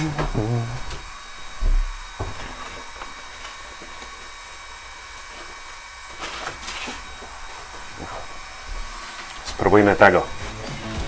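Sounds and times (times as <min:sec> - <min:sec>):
machine hiss and hum: 0:00.0 - 0:11.0.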